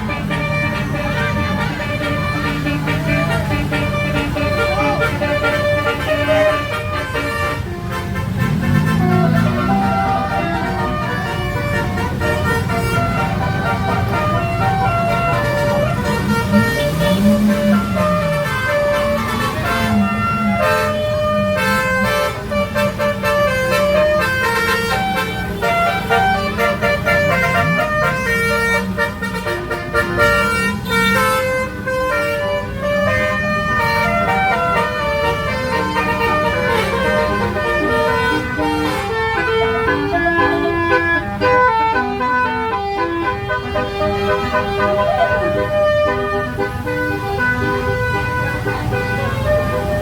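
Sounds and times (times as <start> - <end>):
bus melody horn: 0.0 - 50.0.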